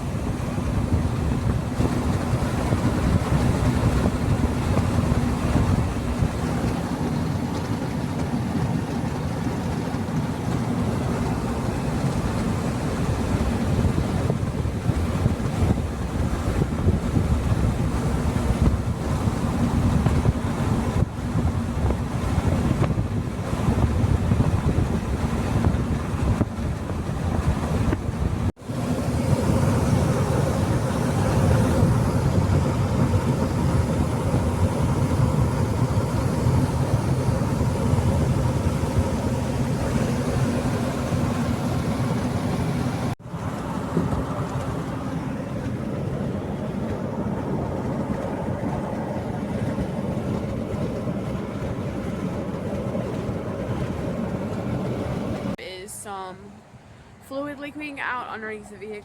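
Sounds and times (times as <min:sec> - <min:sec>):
wind noise: 0:00.0 - 0:56.3
vehicle engine hum: 0:00.0 - 0:59.0.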